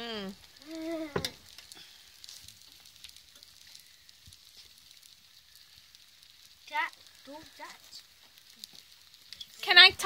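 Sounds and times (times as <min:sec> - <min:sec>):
pancake batter sizzling in a pan: 0:00.0 - 0:10.0.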